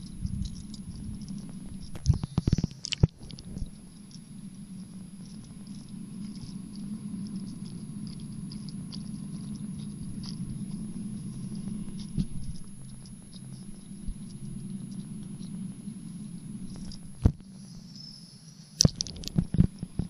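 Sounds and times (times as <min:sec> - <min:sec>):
faint crackles and ticks: 0:00.0 - 0:20.0
underwater low hum: 0:00.0 - 0:20.0.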